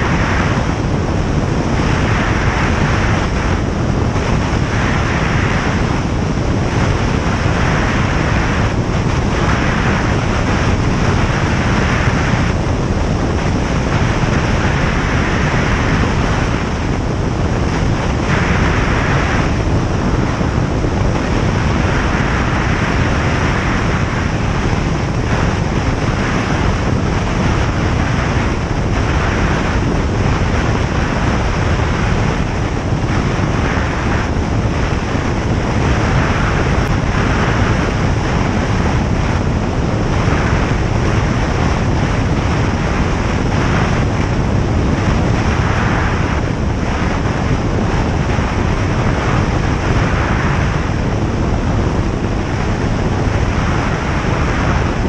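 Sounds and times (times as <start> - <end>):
light aircraft engine droning: 0.0 - 55.0
rush of airflow: 0.0 - 55.0.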